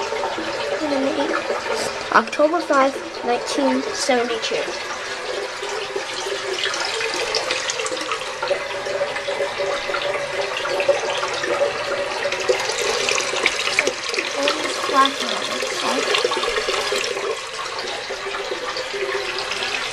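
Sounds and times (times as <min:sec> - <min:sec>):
water running into toilet tank: 0:00.0 - 0:19.9.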